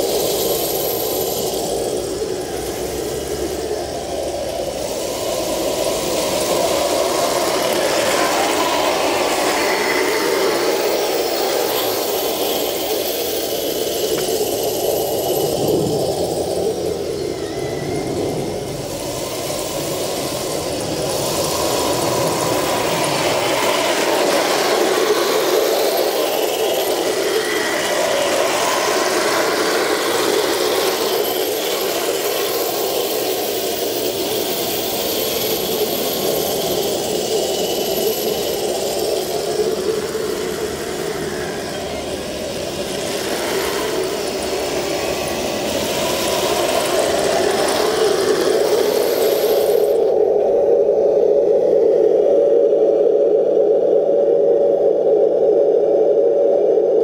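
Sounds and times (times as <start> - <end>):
toy tank motor running: 0.0 - 50.1.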